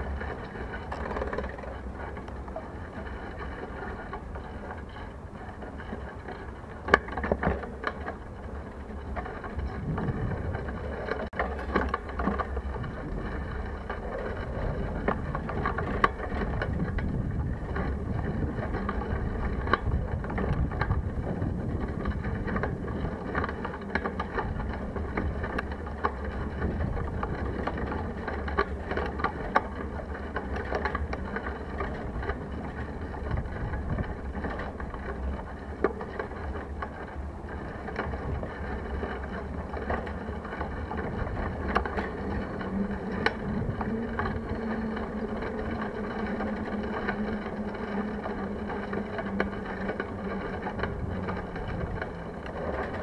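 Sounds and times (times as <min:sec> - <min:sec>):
bicycle rolling noise: 0:00.0 - 0:53.0.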